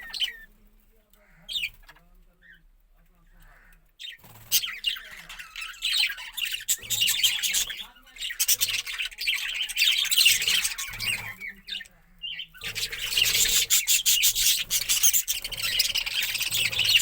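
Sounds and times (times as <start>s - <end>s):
budgerigars chattering and squawking: 0.0s - 0.5s, 1.2s - 2.6s, 3.3s - 17.0s.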